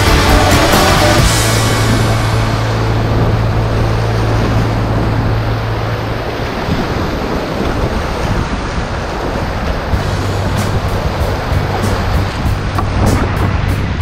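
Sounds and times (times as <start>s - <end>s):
steady low hum: 0.0s - 14.0s
whitewater rapids rushing: 0.0s - 14.0s.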